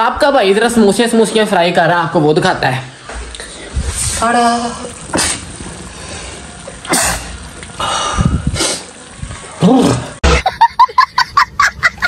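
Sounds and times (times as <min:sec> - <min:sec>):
faint sizzle of deep-frying: 0:00.3 - 0:11.0.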